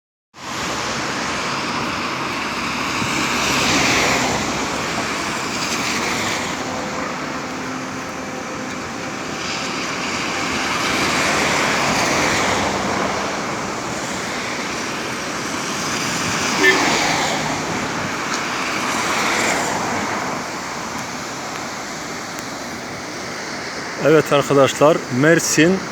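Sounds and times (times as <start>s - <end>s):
creek rushing in flood: 0.4s - 25.9s.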